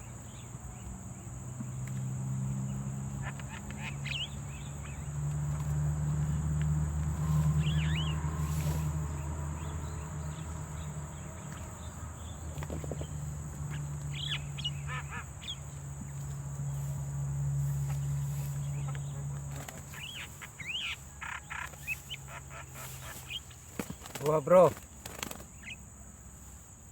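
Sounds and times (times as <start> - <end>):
steady low hum: 0.0 - 26.9
birds giving harsh calls: 1.7 - 26.0.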